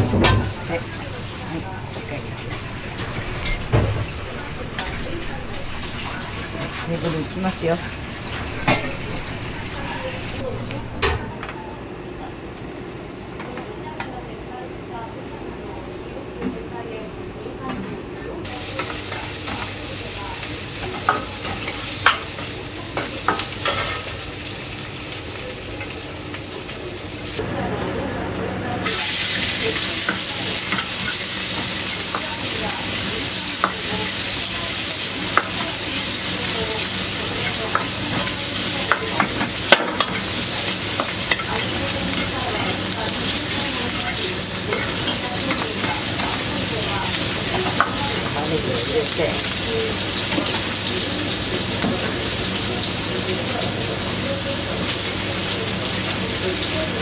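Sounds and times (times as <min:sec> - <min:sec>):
food sizzling in a wok: 0:00.0 - 0:11.2, 0:18.4 - 0:57.0.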